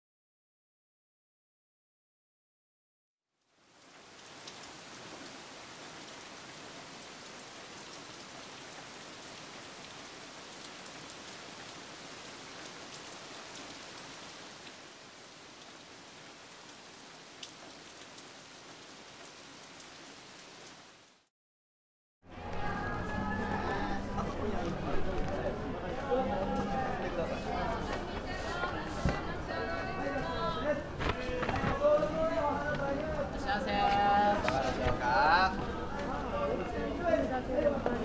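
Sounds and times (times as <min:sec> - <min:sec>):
steady rain hiss: 0:03.4 - 0:21.3, 0:24.1 - 0:38.0.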